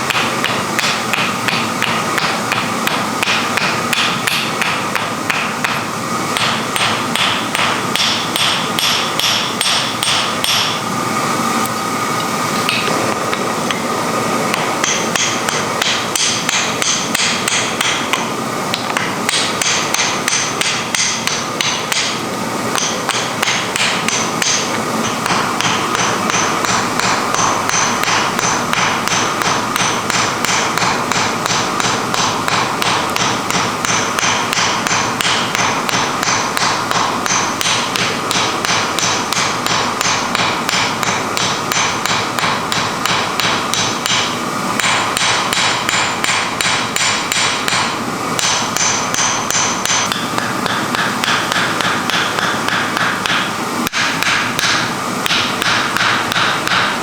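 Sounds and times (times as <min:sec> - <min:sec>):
hammer blows on iron: 0:00.0 - 0:10.9, 0:12.7 - 0:57.0.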